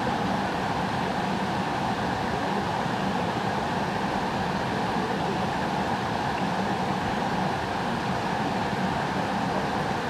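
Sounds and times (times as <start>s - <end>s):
stream water rushing over rocks: 0.0s - 10.0s.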